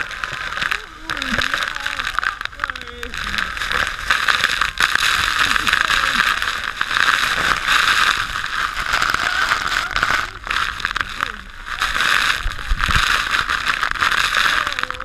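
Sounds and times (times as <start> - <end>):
rush of falling water: 0.0 - 15.0.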